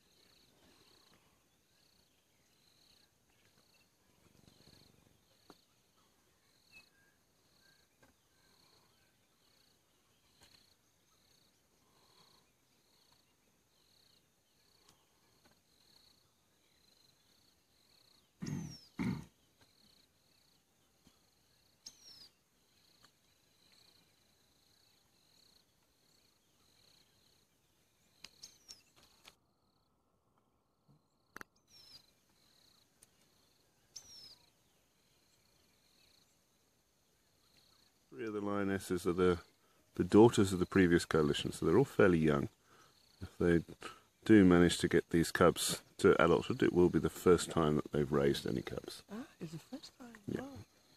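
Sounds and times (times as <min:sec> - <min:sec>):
insect chirping: 0:00.0 - 0:50.9.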